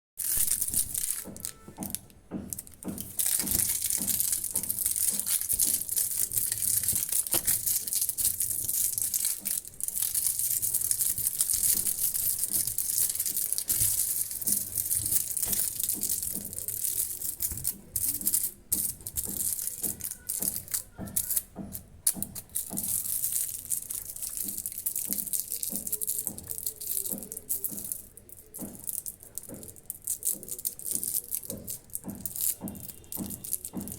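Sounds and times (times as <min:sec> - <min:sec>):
toffee crunching: 0:00.2 - 0:33.9.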